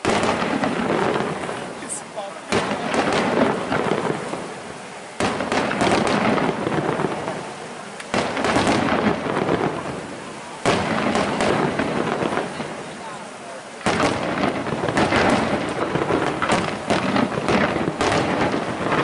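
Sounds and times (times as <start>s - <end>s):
firework shells booming: 0.0s - 13.0s, 13.8s - 19.0s
firework crackle and rumble: 0.0s - 19.0s.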